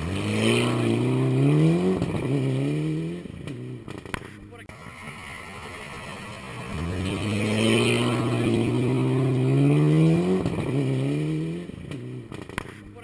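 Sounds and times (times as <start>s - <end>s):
rally car engine accelerating: 0.0s - 12.9s.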